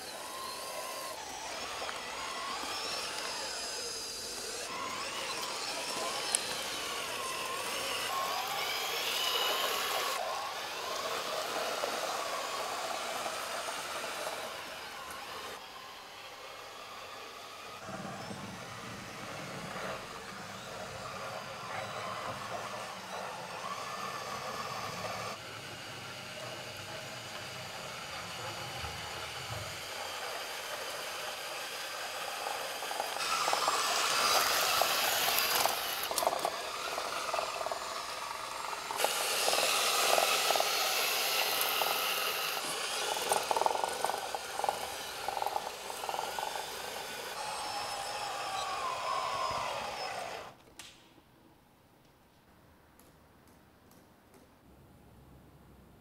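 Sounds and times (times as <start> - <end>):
toy tracked tractor running: 0.0 - 50.6.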